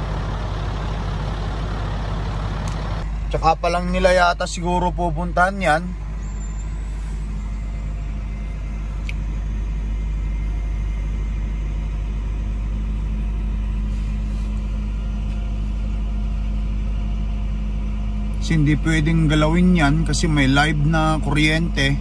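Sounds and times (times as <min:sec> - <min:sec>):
truck diesel engine idling: 0:00.0 - 0:22.0.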